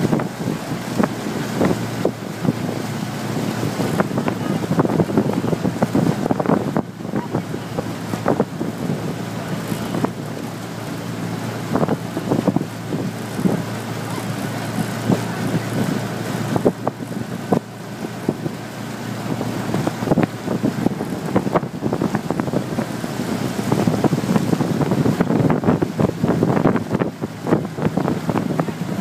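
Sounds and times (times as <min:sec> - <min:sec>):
motorboat running: 0:00.0 - 0:29.0
wind buffeting microphone: 0:00.0 - 0:29.0.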